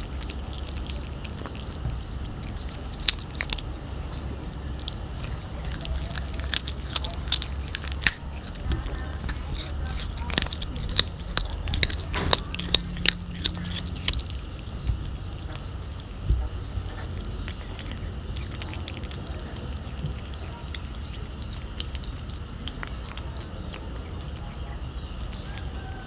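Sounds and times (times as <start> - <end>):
cat chewing raw fish: 0.0 - 26.0.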